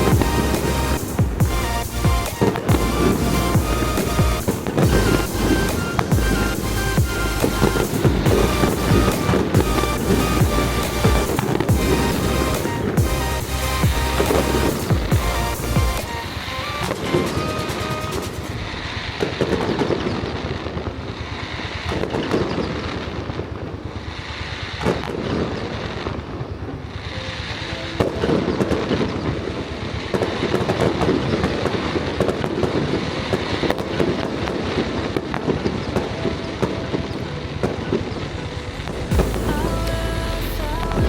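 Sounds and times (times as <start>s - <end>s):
fireworks exploding and crackling: 0.0s - 41.0s.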